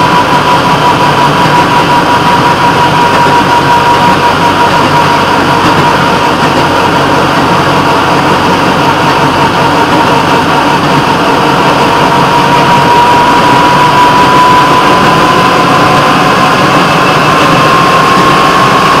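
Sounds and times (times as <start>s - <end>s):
thin rising whine: 0.0s - 19.0s
train running on track: 0.0s - 19.0s.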